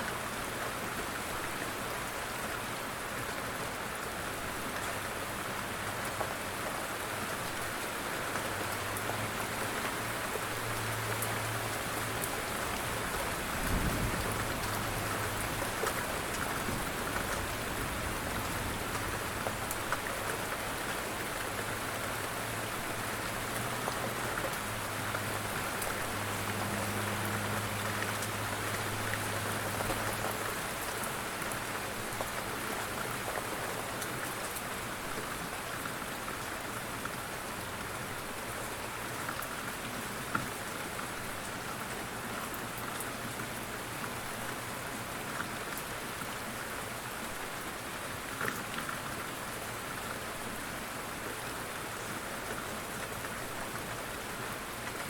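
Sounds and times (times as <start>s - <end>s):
raindrops ticking on surface: 2.5s - 55.0s.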